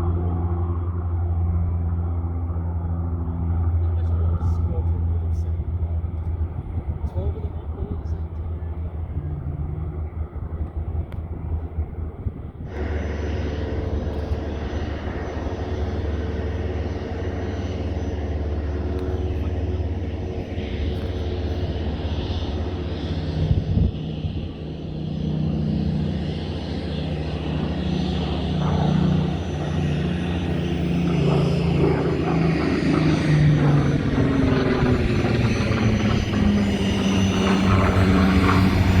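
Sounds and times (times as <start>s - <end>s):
jet engines taxiing: 0.0s - 39.0s
propeller aircraft engine: 0.0s - 39.0s.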